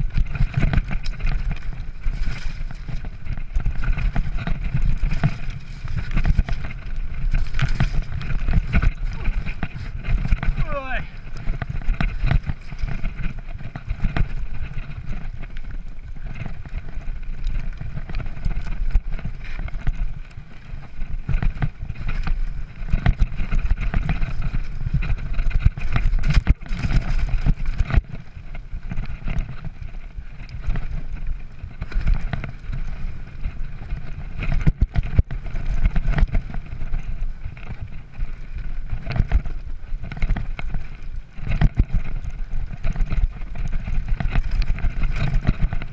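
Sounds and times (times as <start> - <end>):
bike rattling: 0.0 - 45.9
tyres rolling over gravel: 0.0 - 45.9
wind buffeting microphone: 0.0 - 45.9.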